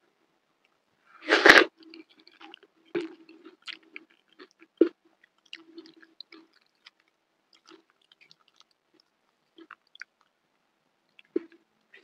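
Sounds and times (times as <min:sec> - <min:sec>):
person chewing: 0:00.6 - 0:10.4, 0:11.1 - 0:12.0.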